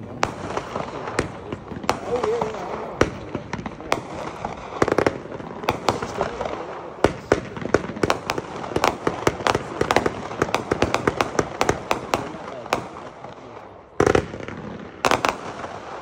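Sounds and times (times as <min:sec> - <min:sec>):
fireworks exploding: 0:00.0 - 0:16.0.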